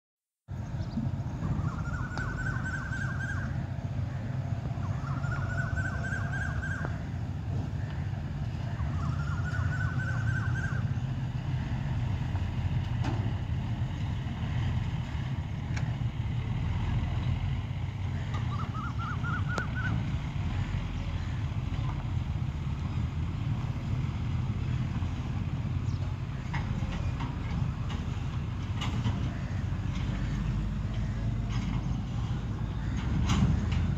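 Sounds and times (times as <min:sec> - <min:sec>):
low outdoor rumble: 0:00.5 - 0:33.9.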